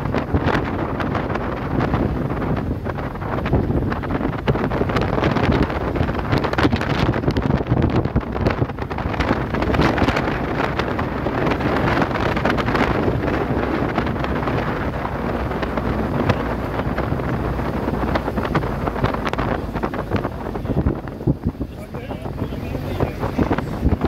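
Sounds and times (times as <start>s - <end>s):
car rumbling on road: 0.0s - 24.0s
wind buffeting microphone: 0.0s - 24.0s.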